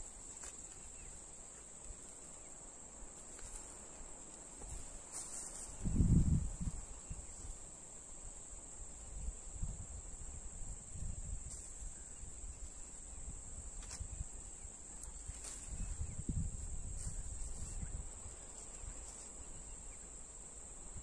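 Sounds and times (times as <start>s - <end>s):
high-pitched insect trill: 2.0s - 21.0s.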